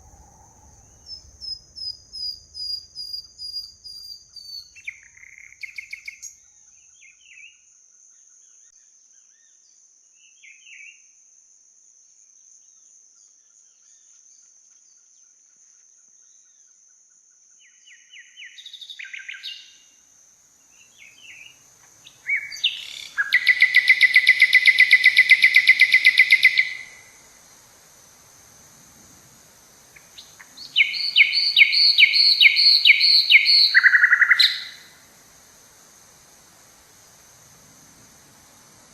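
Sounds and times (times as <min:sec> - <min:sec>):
forest birds chirping and trilling: 0:00.0 - 0:11.1, 0:17.6 - 0:20.0, 0:20.6 - 0:38.9.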